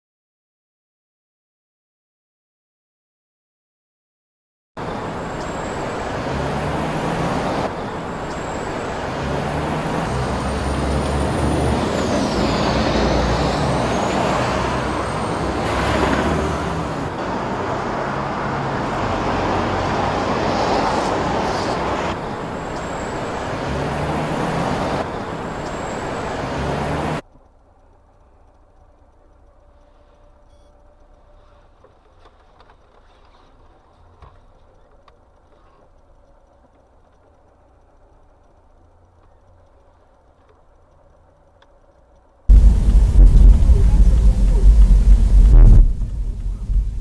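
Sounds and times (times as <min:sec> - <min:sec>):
heavy road traffic passing: 0:04.8 - 0:47.0.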